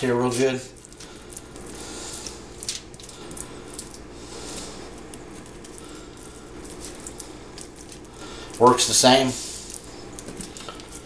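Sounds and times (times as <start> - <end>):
low steady hum: 0.0 - 11.0
butter squishing and smearing: 0.3 - 11.0.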